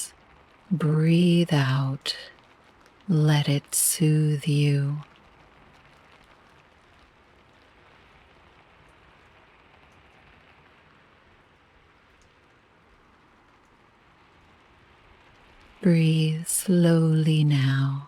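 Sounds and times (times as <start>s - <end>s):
raindrop ticks: 0.0s - 16.8s
soft rain patter: 0.0s - 18.0s.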